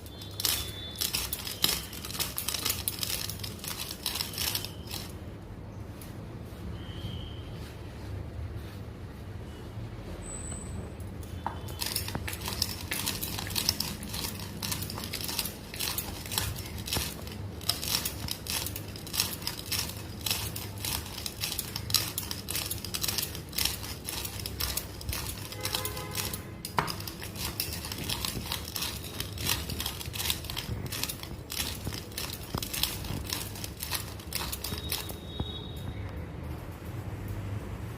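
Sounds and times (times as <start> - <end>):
spices being crushed and ground: 0.0 - 36.1.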